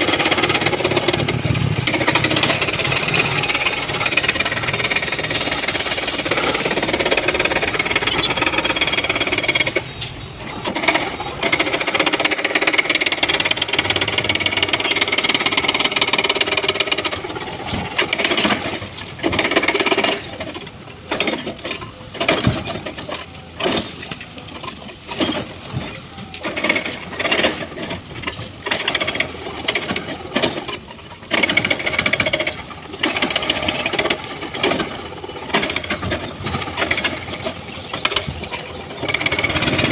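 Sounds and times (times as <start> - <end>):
excavator running under load: 0.0 - 39.9.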